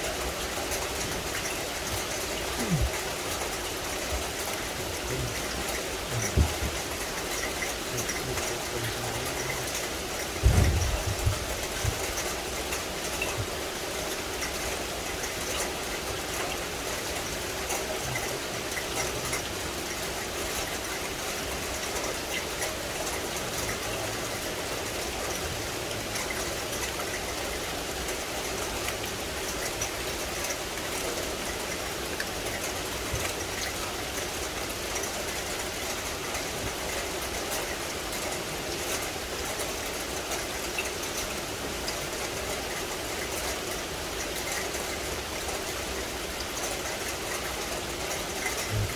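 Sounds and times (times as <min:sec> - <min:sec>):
steady rain in a forest: 0:00.0 - 0:48.9.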